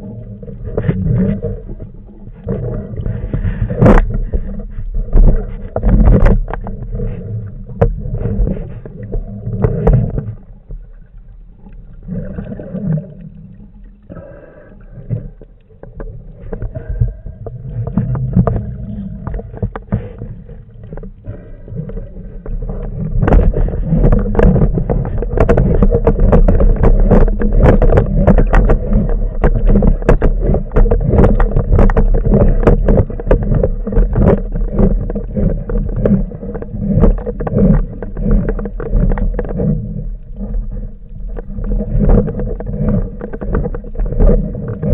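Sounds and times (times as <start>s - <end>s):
crackling clicks: 0.0s - 44.9s
underwater rumble of moving water: 0.0s - 44.9s.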